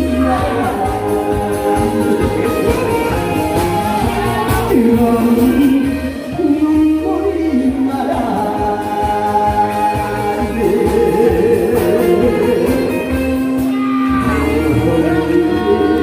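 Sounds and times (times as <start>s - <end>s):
instrumental music with a beat: 0.0s - 16.0s
person singing: 0.0s - 16.0s.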